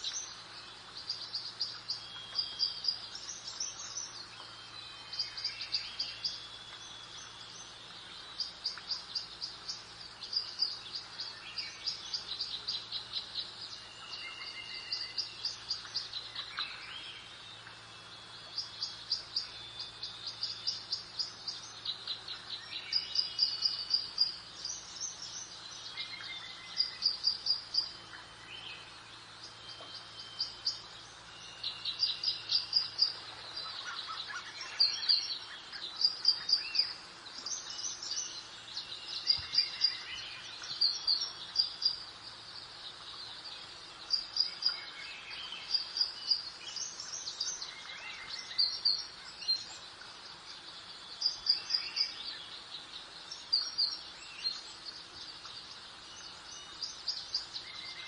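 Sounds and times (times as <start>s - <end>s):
birds chirping: 0.0s - 58.0s
soft breeze-like hiss: 0.0s - 58.0s.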